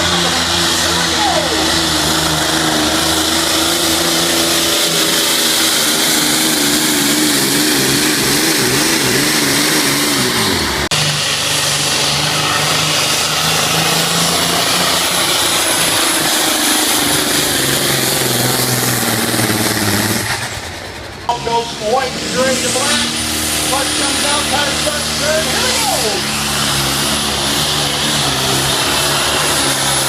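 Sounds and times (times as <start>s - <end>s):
steady engine drone: 0.0s - 30.0s
tractor diesel engine at high revs: 0.0s - 30.0s.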